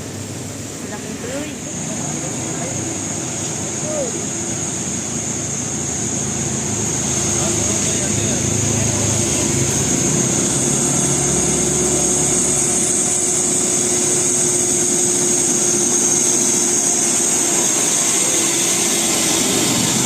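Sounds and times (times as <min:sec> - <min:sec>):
bus diesel engine running: 0:00.0 - 0:20.0
high-pitched whine: 0:00.0 - 0:20.0.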